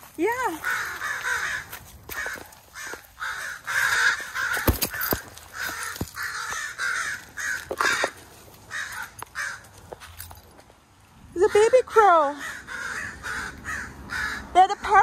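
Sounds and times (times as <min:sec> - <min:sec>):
crows cawing harshly: 0:00.4 - 0:10.0, 0:11.8 - 0:15.0.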